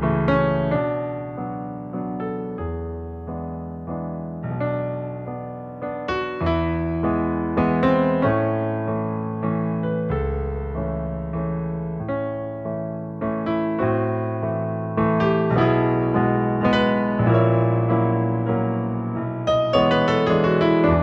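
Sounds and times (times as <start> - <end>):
solo piano playing: 0.0 - 21.0.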